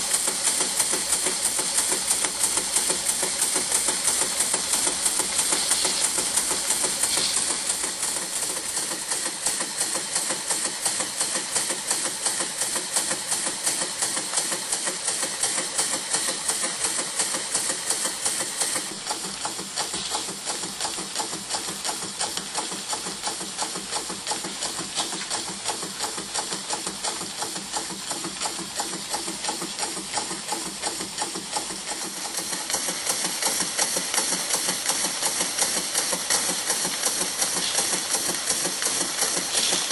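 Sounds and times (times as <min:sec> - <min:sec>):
model steam engine running: 0:00.0 - 0:39.9.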